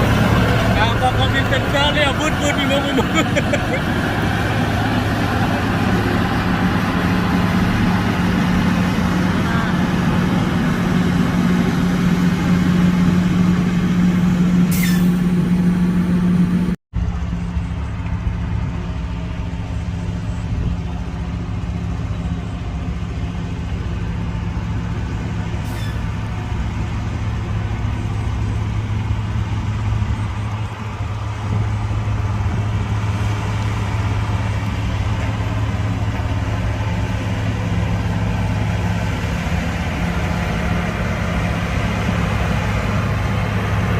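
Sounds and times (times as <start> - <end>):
heavy diesel engine droning: 0.0 - 43.9.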